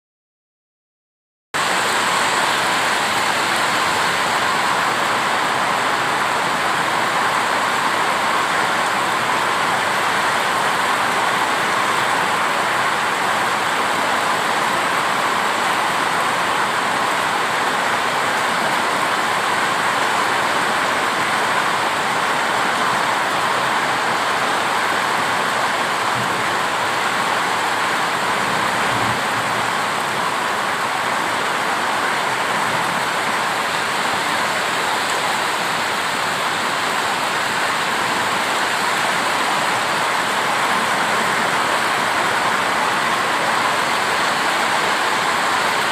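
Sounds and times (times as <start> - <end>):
heavy rain pouring: 1.6 - 45.9.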